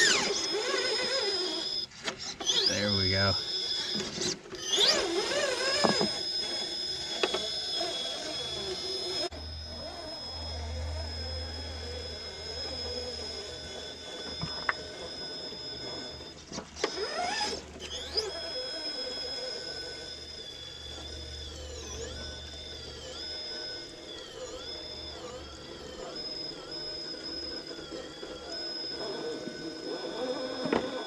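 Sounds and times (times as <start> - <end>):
rc truck motor whining: 0.0 - 31.0.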